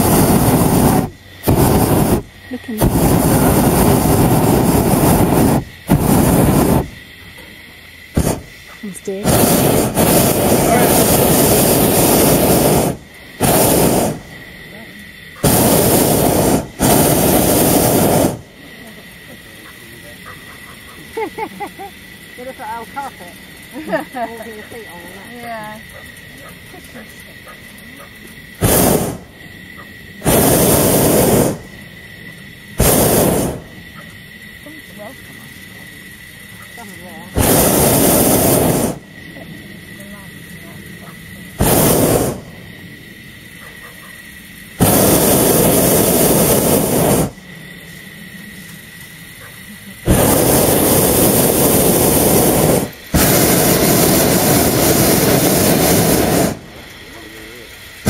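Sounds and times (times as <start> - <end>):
propane burner blasts: 0.0 - 58.0.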